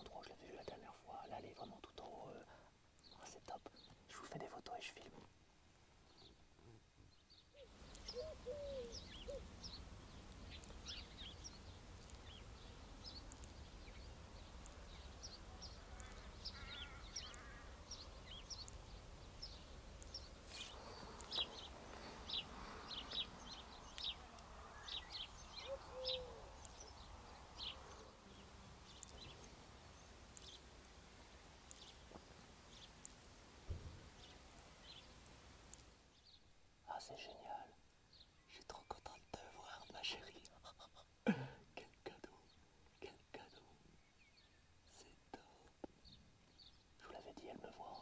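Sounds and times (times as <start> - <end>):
small birds chirping: 0.0 - 5.3, 6.0 - 48.0.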